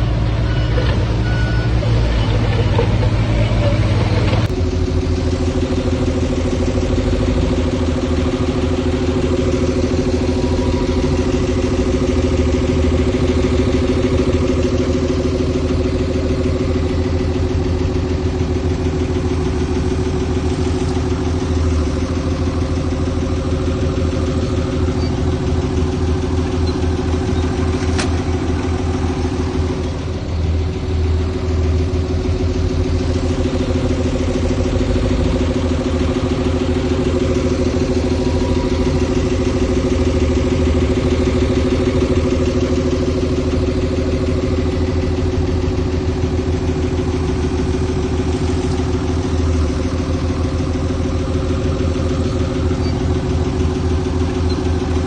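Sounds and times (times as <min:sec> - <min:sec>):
diesel engine throbbing: 0:00.0 - 0:55.0.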